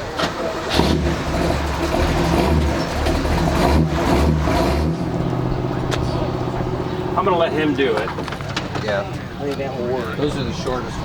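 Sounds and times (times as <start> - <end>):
car engine running unevenly: 0.0 - 9.5.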